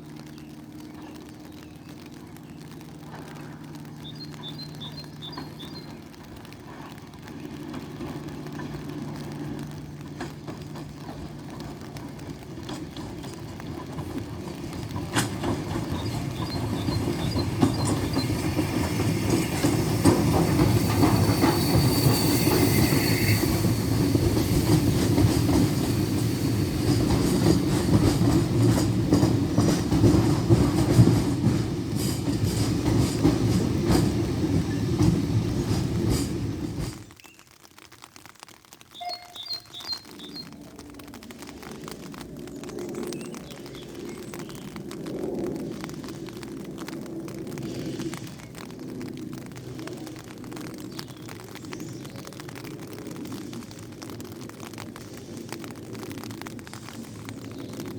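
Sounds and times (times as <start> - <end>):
steam train passing: 0.0 - 37.2, 39.0 - 57.9.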